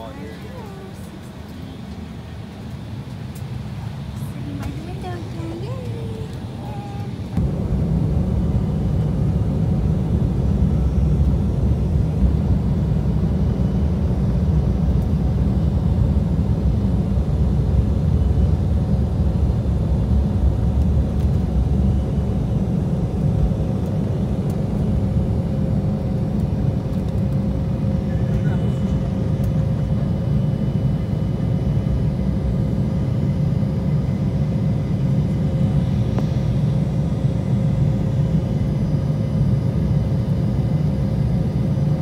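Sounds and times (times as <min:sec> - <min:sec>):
jet engines at takeoff power: 0:00.0 - 0:42.0.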